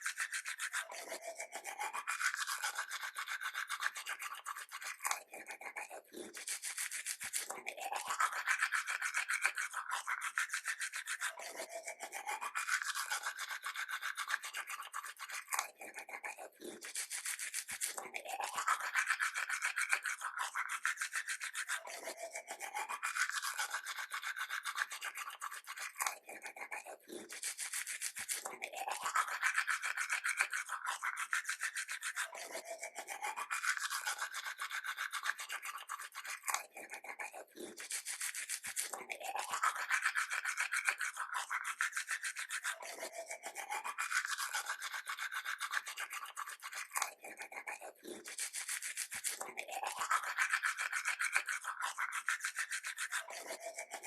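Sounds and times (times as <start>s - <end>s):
toothbrush scrubbing teeth: 0.0s - 54.0s.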